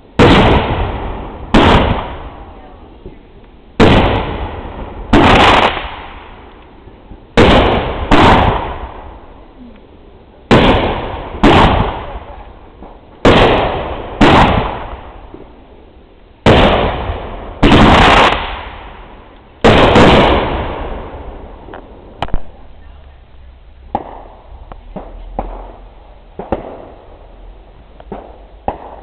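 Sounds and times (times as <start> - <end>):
fireworks bangs with rolling echo: 0.0 - 29.0.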